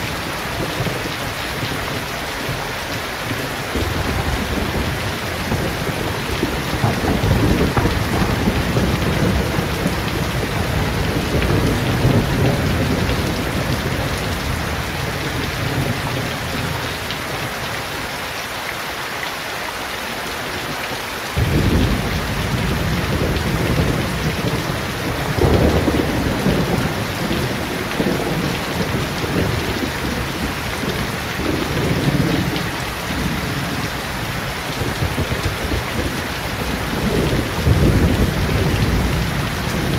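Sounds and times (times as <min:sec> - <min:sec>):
rain falling on leaves and paving: 0:00.0 - 0:39.9.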